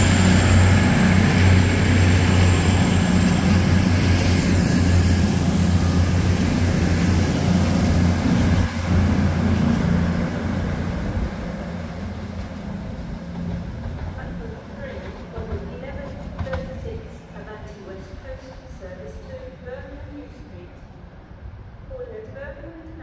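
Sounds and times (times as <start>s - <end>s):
diesel train engine drone: 0.0s - 23.0s.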